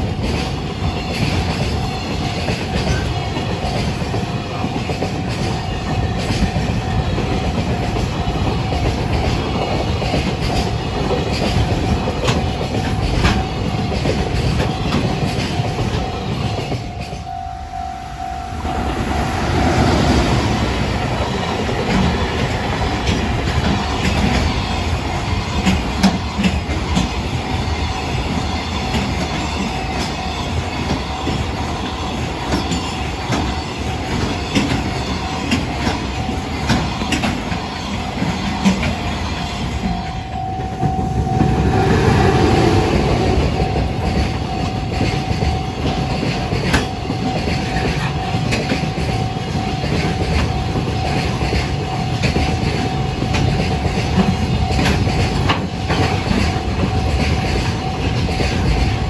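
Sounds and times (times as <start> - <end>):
train wheels clattering over rail joints: 0.0 - 17.2, 19.5 - 59.0
electric locomotive passing: 0.0 - 59.0.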